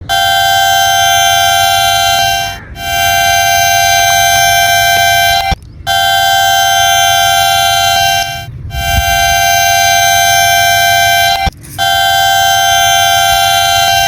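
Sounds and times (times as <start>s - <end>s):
train horn blasts: 0.0s - 14.0s.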